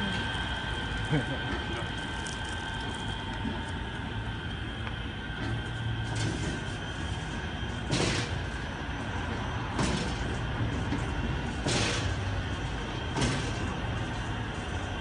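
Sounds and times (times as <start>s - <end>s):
car wash machine humming: 0.0s - 15.0s.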